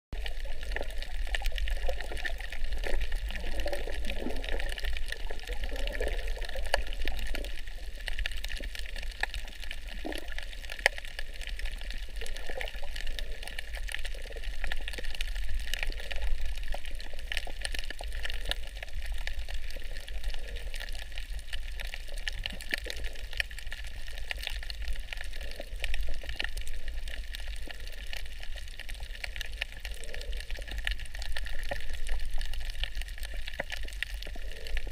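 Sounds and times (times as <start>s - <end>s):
crackling clicks: 0.2s - 34.9s
water sloshing and swirling: 0.2s - 34.9s.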